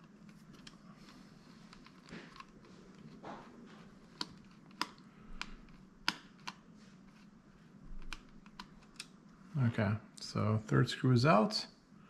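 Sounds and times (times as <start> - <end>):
soft handling rustle: 0.0 - 9.9.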